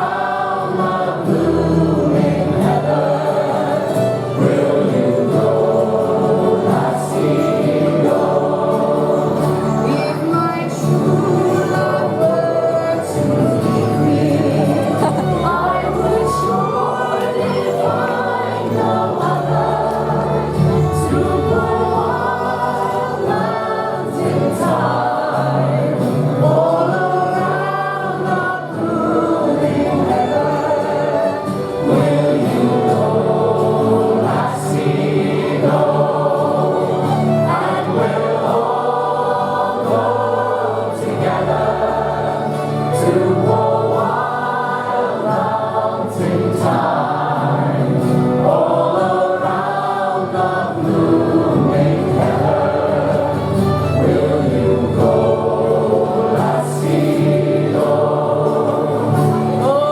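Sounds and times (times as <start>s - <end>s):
crowd singing folk song: 0.0s - 59.9s.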